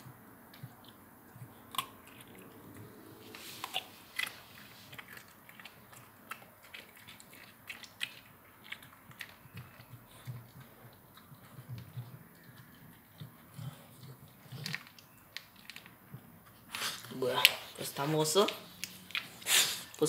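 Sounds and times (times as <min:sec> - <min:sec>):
dog chewing and crunching: 0:00.0 - 0:20.0.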